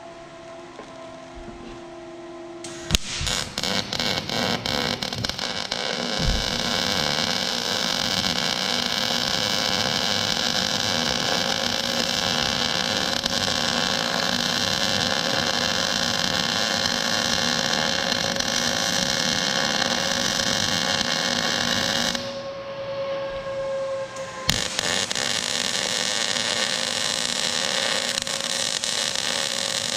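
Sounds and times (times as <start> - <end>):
welding arc hissing and buzzing: 2.7 - 22.4, 24.2 - 29.9.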